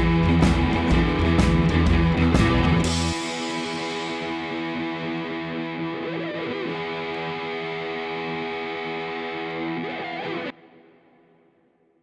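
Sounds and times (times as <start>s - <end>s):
rock music with electric guitar: 0.0s - 11.6s.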